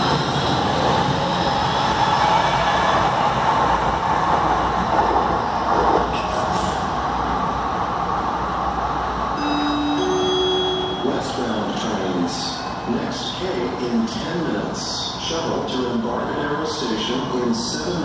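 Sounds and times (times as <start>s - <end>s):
light-rail train rumbling: 0.0s - 18.0s.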